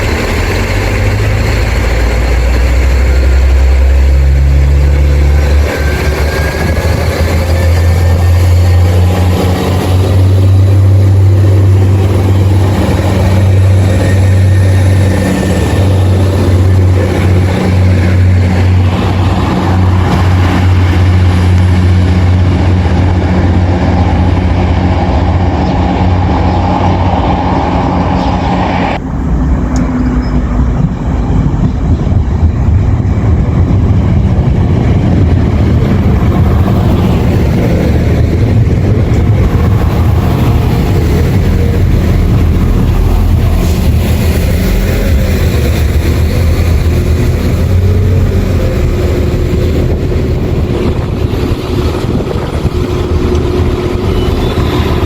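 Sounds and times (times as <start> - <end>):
diesel train engine rumble: 0.0 - 55.0.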